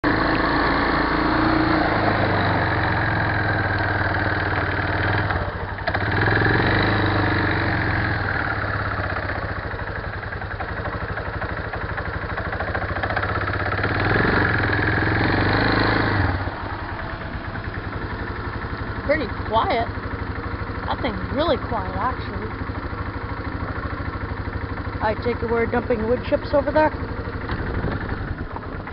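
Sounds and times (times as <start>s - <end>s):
backhoe diesel engine running: 0.0s - 28.9s.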